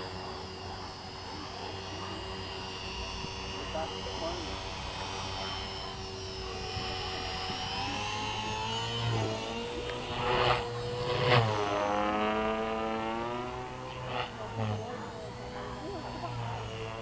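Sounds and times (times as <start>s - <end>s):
rc helicopter motor whining: 0.0s - 17.0s.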